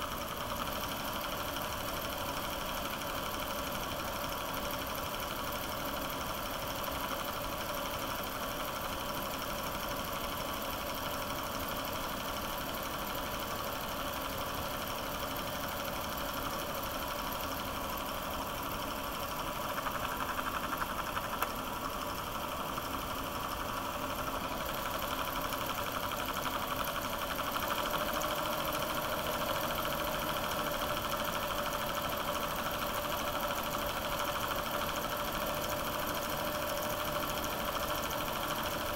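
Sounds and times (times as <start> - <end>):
film projector whirring and clattering: 0.0 - 38.9.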